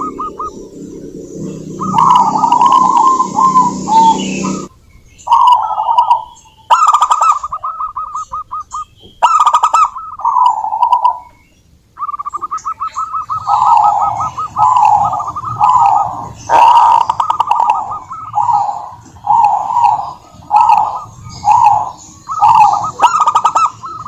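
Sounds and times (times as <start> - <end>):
doves cooing: 0.0 - 4.7, 5.3 - 11.4, 12.0 - 24.0.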